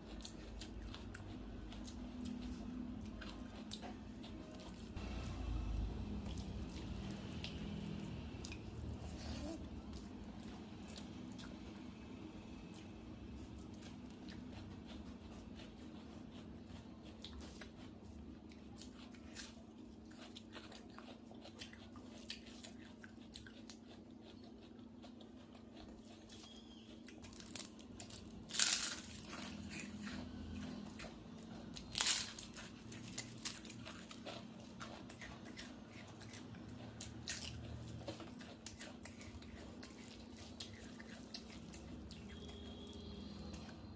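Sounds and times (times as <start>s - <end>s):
chewing with crunchy bites: 0.0s - 43.9s
steady low hum: 0.0s - 43.9s.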